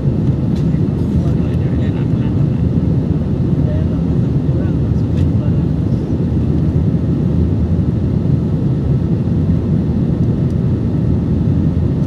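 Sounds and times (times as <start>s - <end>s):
airliner engine drone in cabin: 0.0s - 12.0s.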